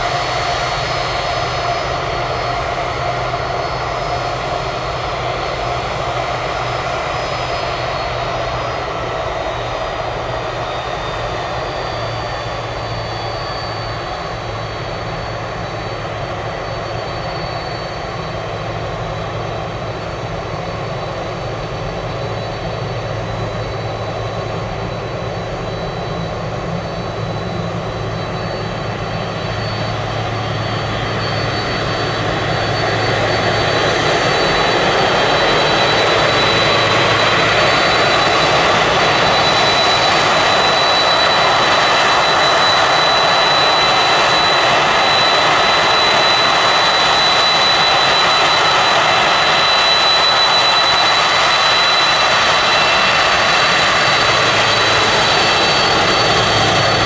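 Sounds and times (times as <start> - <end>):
jet engines taxiing: 0.0 - 57.0.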